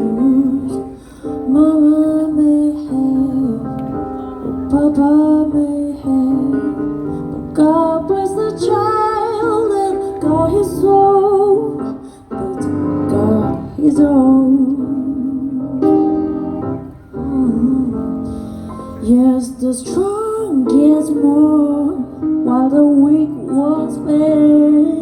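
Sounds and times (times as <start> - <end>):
woman singing jazz ballad: 0.0 - 25.0.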